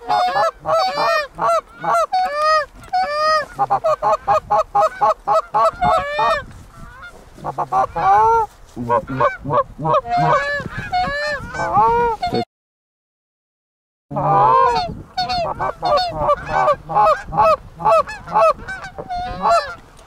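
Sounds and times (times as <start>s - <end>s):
geese honking and clucking: 0.0s - 12.4s, 14.1s - 20.0s.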